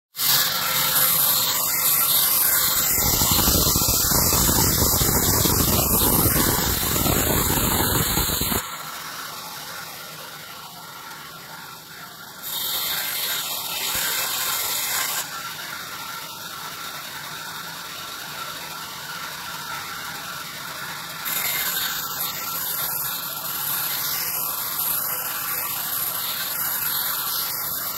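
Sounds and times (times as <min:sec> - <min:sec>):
band saw cutting through log: 0:00.1 - 0:27.9.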